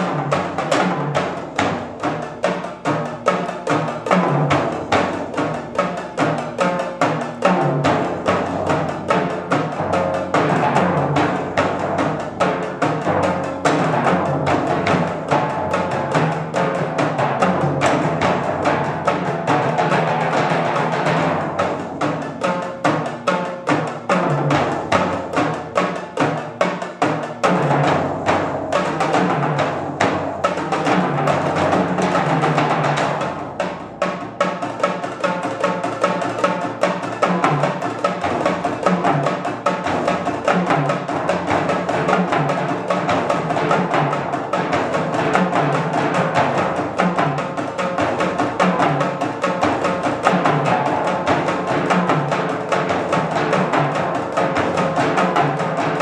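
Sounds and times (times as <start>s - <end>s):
fast percussion drumming: 0.0s - 56.0s
timpani notes: 0.0s - 56.0s.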